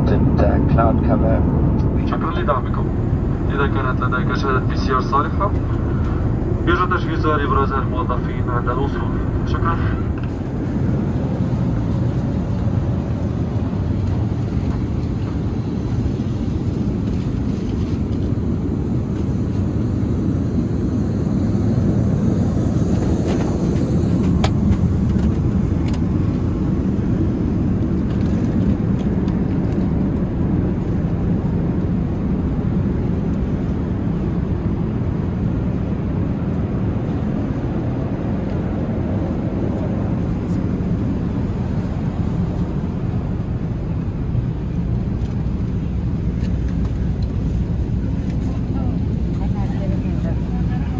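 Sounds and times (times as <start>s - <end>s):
airplane cabin engine roar: 0.0s - 50.9s.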